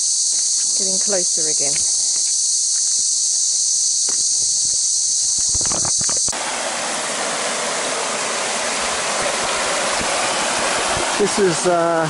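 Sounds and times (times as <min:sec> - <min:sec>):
cicadas chorus: 0:00.0 - 0:12.0
creek running over rocks: 0:00.3 - 0:12.0.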